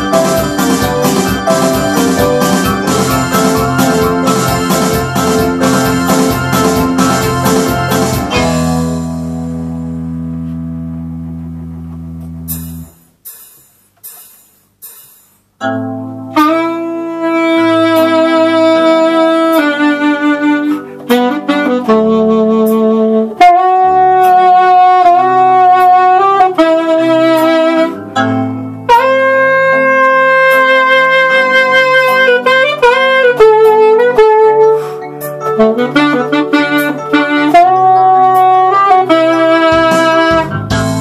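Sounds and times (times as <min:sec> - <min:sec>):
saxophone melody: 0:00.0 - 0:13.1, 0:15.6 - 0:41.0
synthesizer chord: 0:00.0 - 0:13.1, 0:15.6 - 0:41.0
lower accompaniment: 0:00.0 - 0:13.2, 0:15.7 - 0:41.0.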